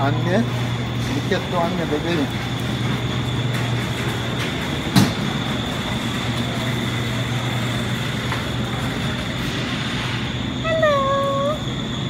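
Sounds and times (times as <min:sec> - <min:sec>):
shopping cart rolling on tile: 0:00.0 - 0:10.5
constant low hum: 0:00.0 - 0:12.0.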